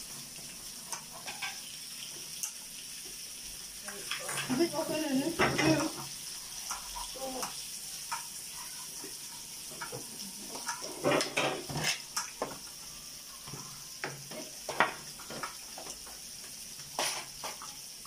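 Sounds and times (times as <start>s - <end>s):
meat sizzling on a grill pan: 0.0s - 18.0s.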